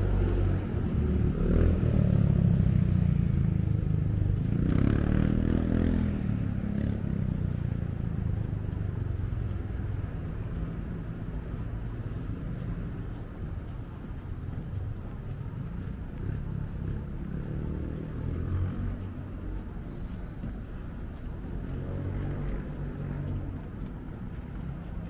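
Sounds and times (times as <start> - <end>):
vehicles passing: 0.0 - 25.0.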